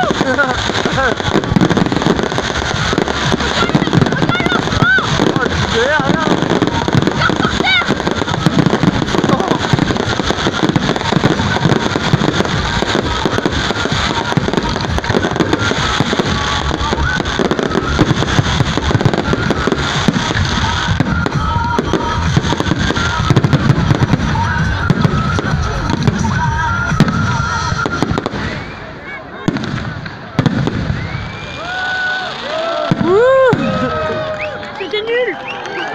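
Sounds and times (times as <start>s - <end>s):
fireworks bursting and crackling: 0.0s - 35.9s.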